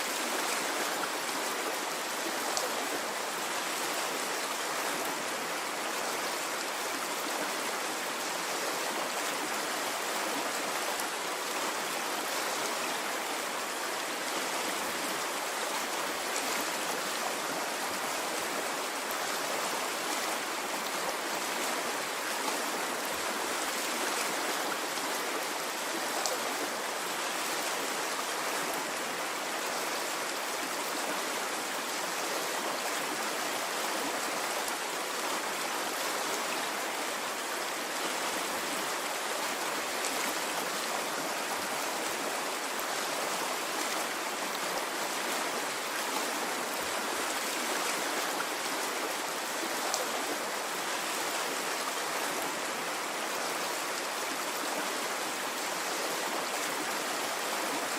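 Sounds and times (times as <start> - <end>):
stream flowing: 0.0 - 57.9.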